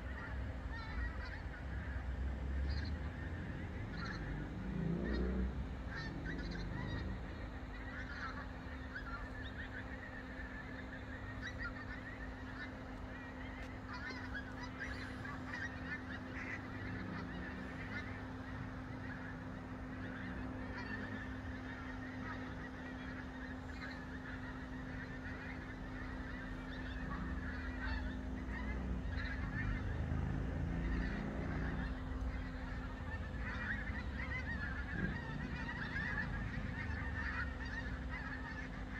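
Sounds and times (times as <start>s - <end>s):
geese honking in flight: 0.0s - 38.9s
steady low hum: 0.0s - 38.9s.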